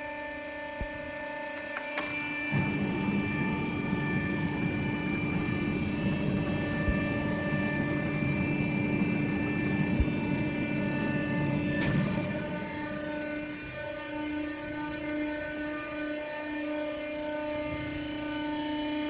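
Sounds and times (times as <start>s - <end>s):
strapping machine droning: 0.6s - 19.0s.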